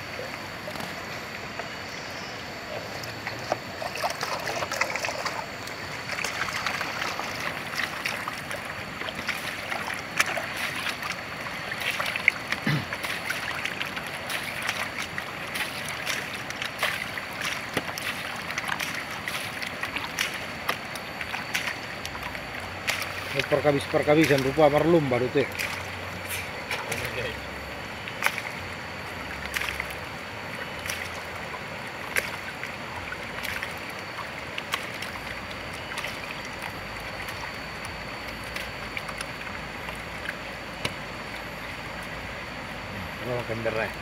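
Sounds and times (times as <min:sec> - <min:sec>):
small water splashes and trickles: 0:00.0 - 0:44.0
water sloshing in a gold pan: 0:00.0 - 0:44.0.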